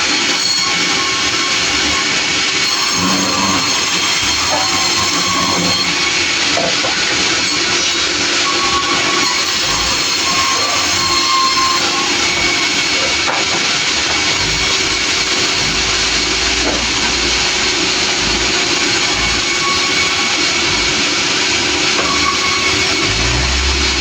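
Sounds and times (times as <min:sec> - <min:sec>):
sawmill machine whine: 0:00.0 - 0:24.0.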